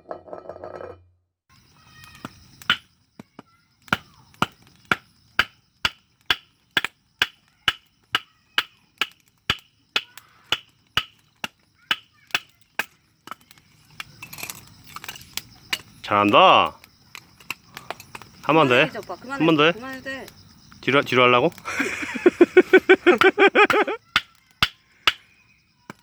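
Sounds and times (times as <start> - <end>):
knife chopping firewood: 2.0 - 19.6, 21.5 - 25.3.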